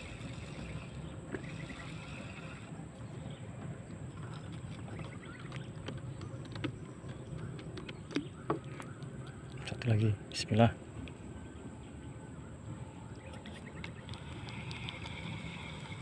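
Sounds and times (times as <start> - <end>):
low river ambience rumble: 0.0 - 16.0.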